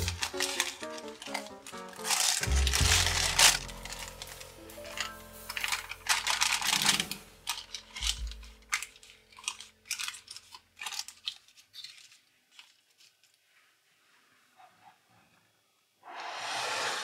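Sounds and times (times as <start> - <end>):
parchment paper crinkling: 0.0 - 13.9.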